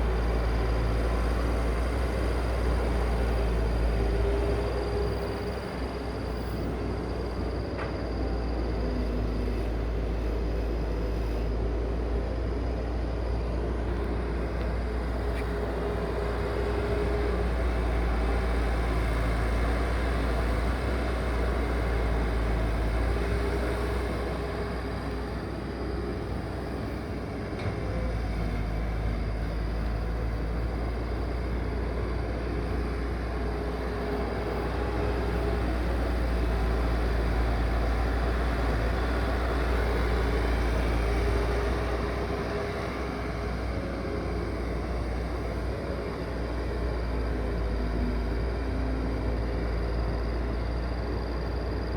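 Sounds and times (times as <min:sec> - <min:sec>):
large engine rumbling: 0:00.0 - 0:51.9.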